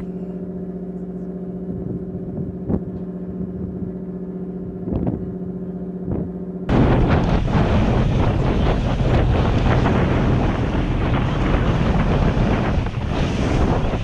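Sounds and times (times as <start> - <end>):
ship machinery humming: 0.0 - 14.0.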